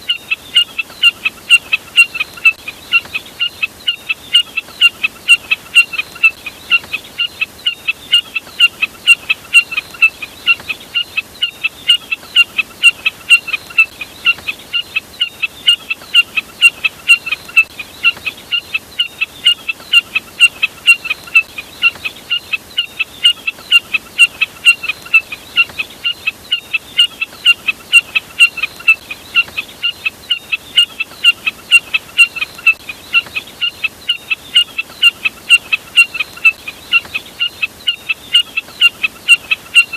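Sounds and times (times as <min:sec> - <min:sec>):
bird calling with sharp high chirps: 0:00.0 - 0:39.9.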